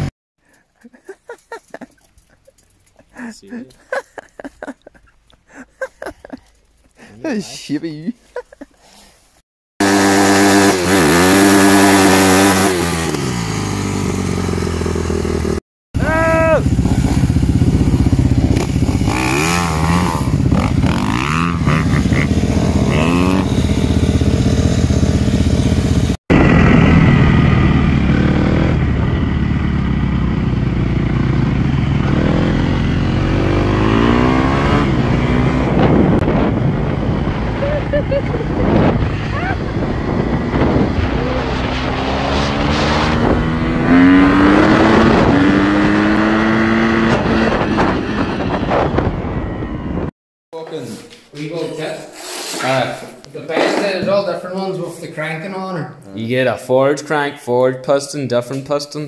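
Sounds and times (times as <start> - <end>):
dirt bike engines revving: 0.0 - 8.7, 9.8 - 50.1.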